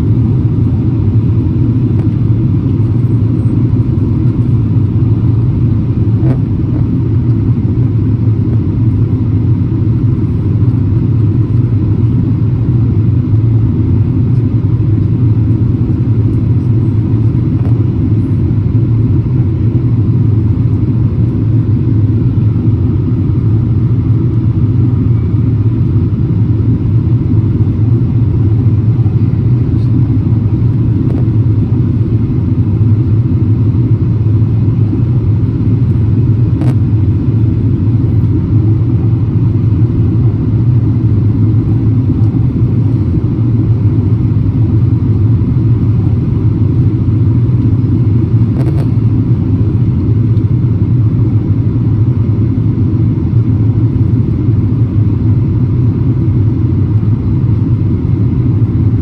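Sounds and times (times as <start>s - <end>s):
jet engines and airflow rumble: 0.0s - 59.0s.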